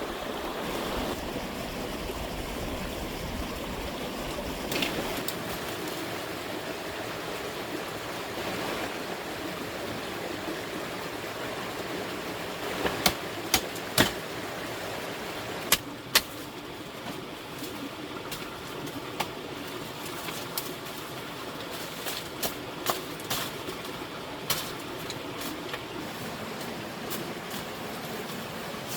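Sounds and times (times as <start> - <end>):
stream rushing: 0.0 - 28.9.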